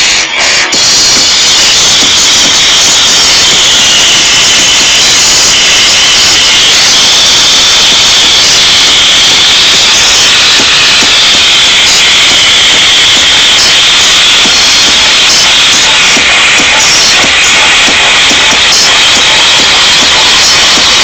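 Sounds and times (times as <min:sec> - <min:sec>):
speakers hissing roar: 0:00.0 - 0:21.0.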